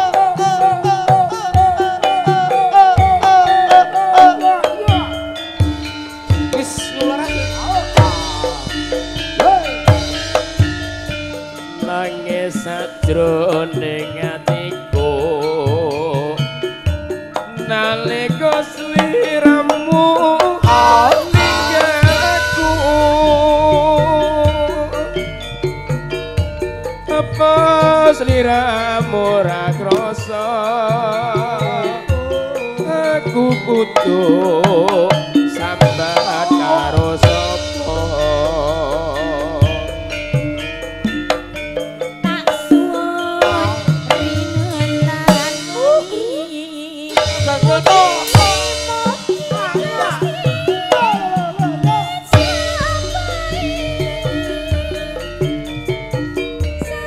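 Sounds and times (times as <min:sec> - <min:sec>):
person singing with vibrato: 0:00.0 - 0:40.6, 0:41.9 - 0:57.0
gamelan music over a pa: 0:00.0 - 0:57.0
gongs and metallophones: 0:00.0 - 0:57.0
hand drum strokes: 0:00.0 - 0:57.0
struck metal notes: 0:03.2 - 0:14.0, 0:17.2 - 0:32.3, 0:35.5 - 0:57.0.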